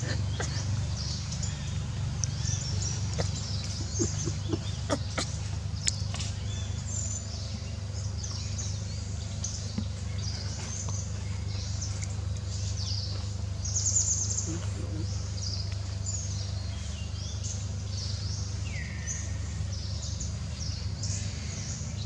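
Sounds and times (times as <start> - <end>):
birds chirping: 0.0 - 22.0
low background rumble: 0.0 - 22.0.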